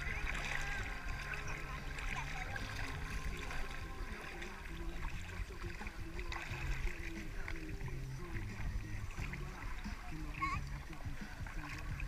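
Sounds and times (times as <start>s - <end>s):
seawater sloshing and lapping: 0.0s - 12.0s
small splashes around kayak: 0.0s - 12.0s.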